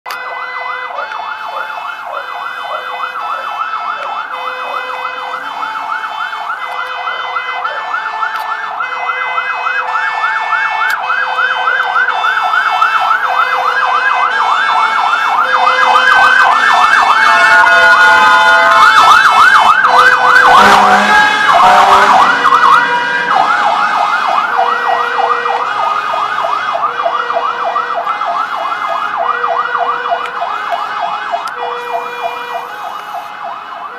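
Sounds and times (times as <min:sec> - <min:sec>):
fire engine siren yelping: 0:00.1 - 0:33.9
lower siren tone: 0:00.1 - 0:33.9.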